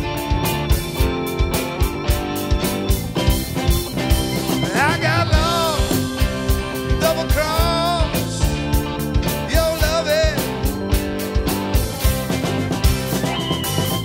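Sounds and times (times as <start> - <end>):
rock band playing live: 0.0 - 14.0
sliding lead melody: 0.0 - 14.0.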